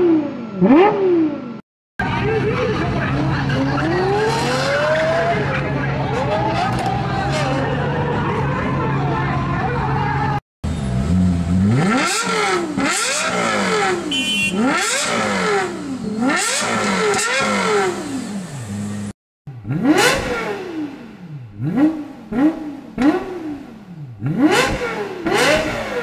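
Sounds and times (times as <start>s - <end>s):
car engine revving: 0.0s - 8.6s, 10.6s - 26.0s.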